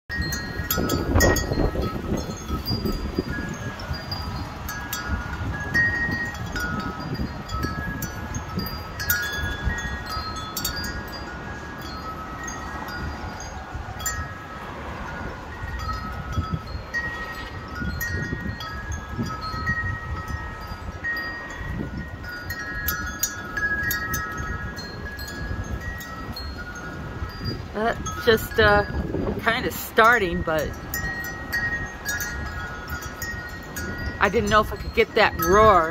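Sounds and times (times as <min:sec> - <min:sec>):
wind buffeting microphone: 0:00.1 - 0:35.9
wind chimes ringing: 0:00.1 - 0:35.9.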